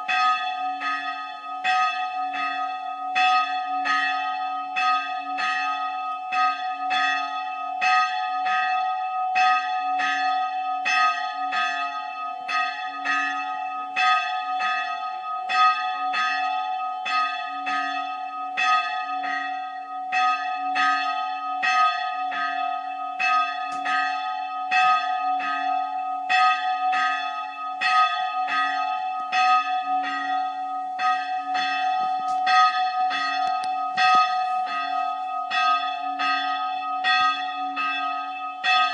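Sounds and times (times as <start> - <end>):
church bell ringing: 0.0 - 38.9.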